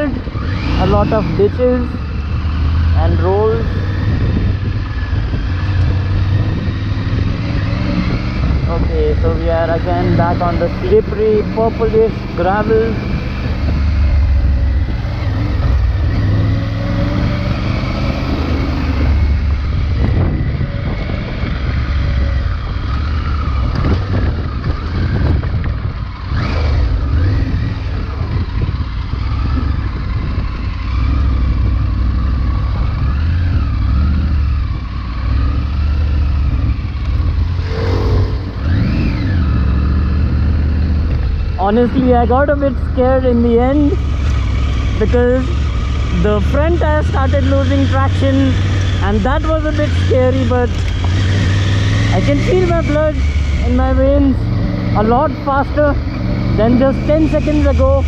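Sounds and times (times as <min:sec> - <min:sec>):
motorcycle engine under load: 0:00.0 - 0:58.0.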